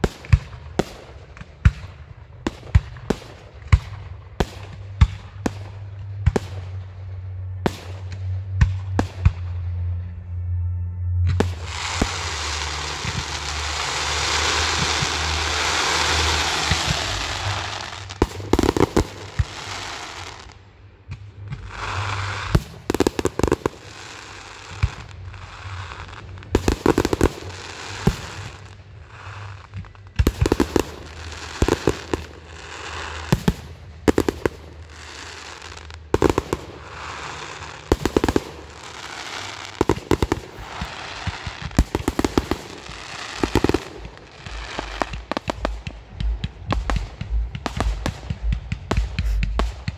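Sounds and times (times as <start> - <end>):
fireworks hiss and crackle: 0.0 - 9.4, 11.4 - 49.9.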